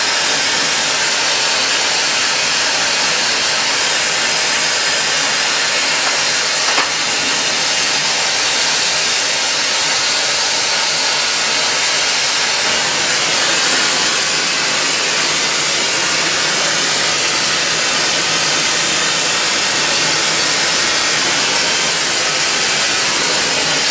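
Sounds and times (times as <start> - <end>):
torch flame hissing: 0.0 - 23.9.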